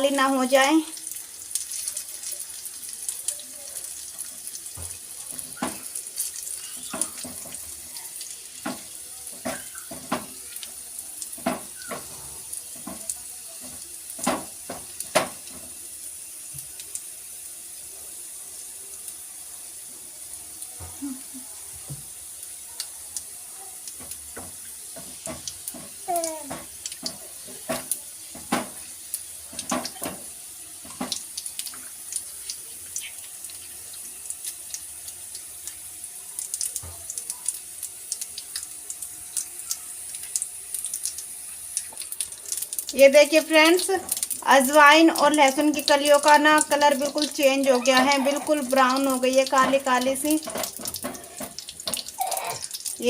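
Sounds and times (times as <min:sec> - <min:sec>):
oil popping and crackling: 0:00.0 - 0:17.5, 0:20.6 - 0:53.0
garlic and seeds sizzling in oil: 0:00.0 - 0:53.0.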